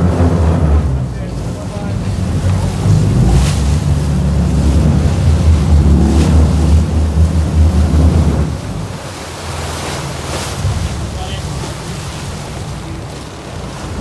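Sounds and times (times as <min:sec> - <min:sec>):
heavy low rumble: 0:00.0 - 0:14.0
sea water rushing: 0:00.0 - 0:14.0
wind buffeting microphone: 0:00.0 - 0:14.0.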